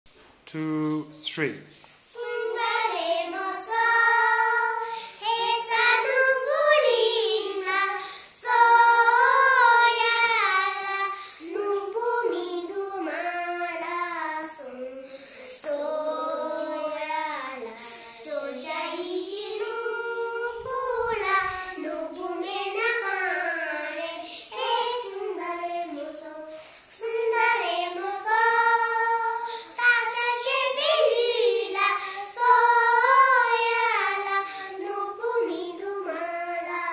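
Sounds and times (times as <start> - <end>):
children singing: 2.0 - 36.9.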